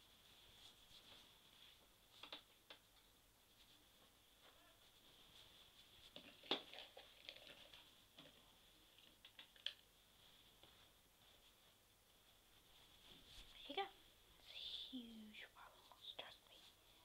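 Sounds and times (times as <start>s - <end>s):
faint high-pitched whine: 0.0s - 17.0s.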